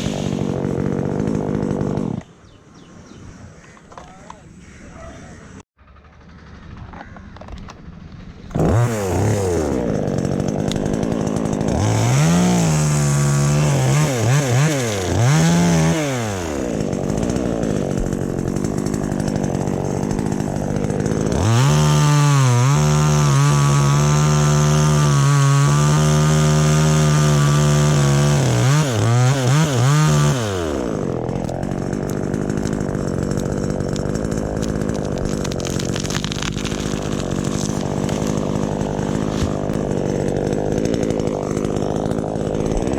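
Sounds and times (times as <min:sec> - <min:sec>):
chainsaw engine revving: 0:00.0 - 0:02.3, 0:05.8 - 0:42.9.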